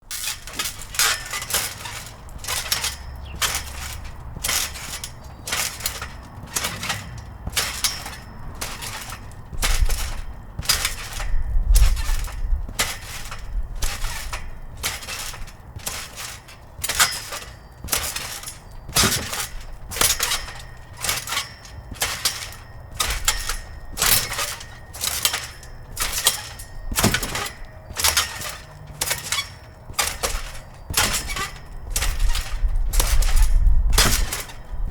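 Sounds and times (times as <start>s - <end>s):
distant traffic rumble: 0.0s - 34.9s
trampoline springs clanging and creaking: 0.0s - 34.9s.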